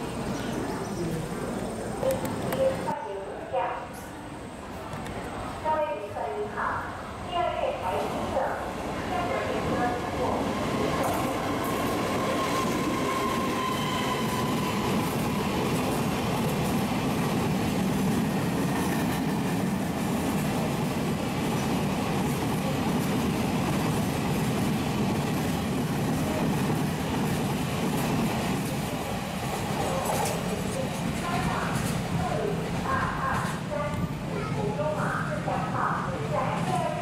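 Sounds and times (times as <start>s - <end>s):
freight train rumbling past: 6.3s - 37.0s.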